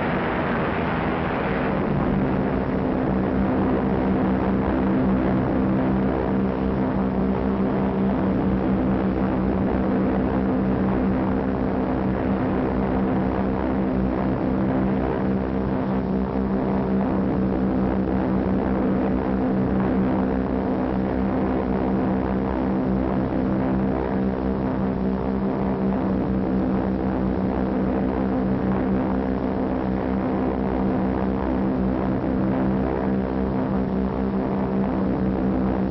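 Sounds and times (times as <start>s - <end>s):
propeller engines droning: 0.0s - 35.9s.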